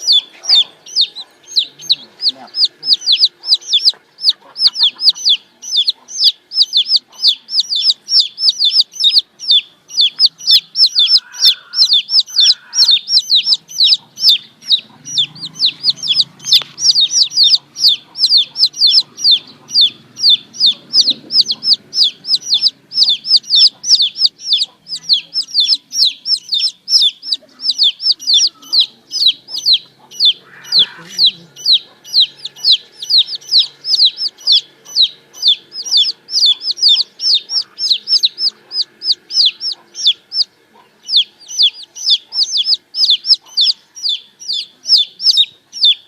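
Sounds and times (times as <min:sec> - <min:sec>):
baby chicks peeping: 0:00.0 - 0:46.0.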